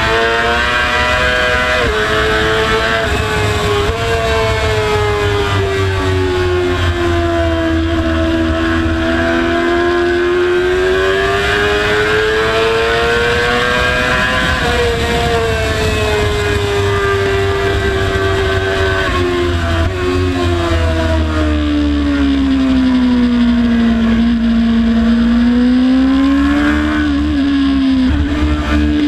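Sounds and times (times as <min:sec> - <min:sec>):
motorcycle engine revving high: 0:00.0 - 0:29.0.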